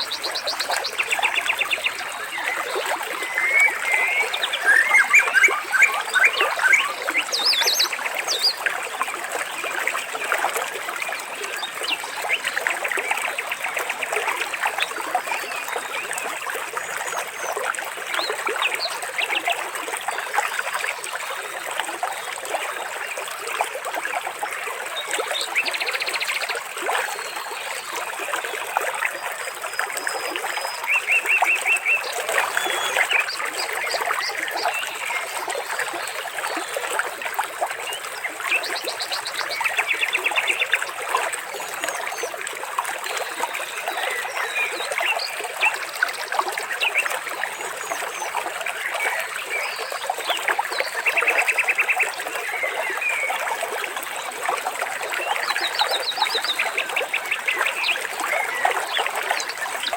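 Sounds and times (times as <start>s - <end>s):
small stream trickling: 0.0s - 59.9s.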